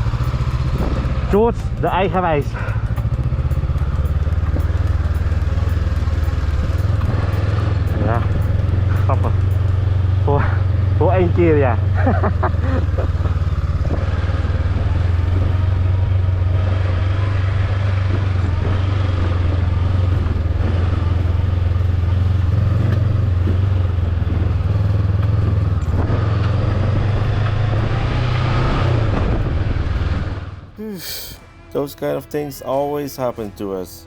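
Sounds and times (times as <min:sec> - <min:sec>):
motorbike engine droning: 0:00.0 - 0:33.8.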